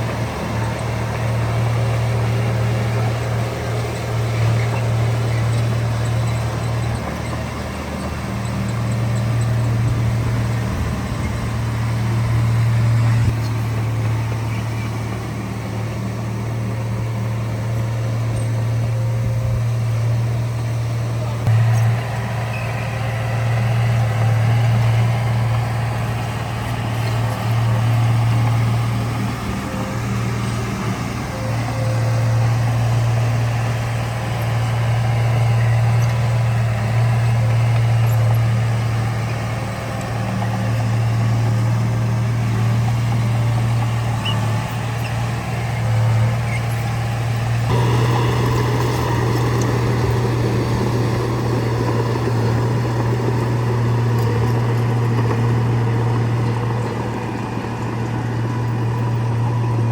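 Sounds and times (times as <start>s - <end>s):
diesel engine deep hum: 0.0s - 59.9s.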